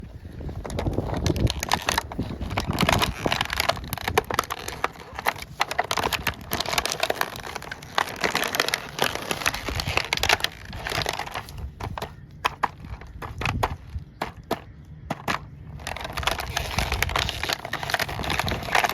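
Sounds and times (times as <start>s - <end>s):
packaging crinkling: 0.5s - 14.5s, 15.1s - 18.9s.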